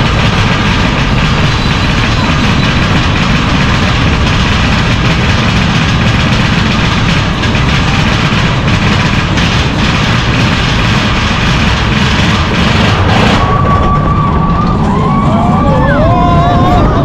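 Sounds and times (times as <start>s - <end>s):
roller coaster wheels rumbling: 0.0s - 17.0s.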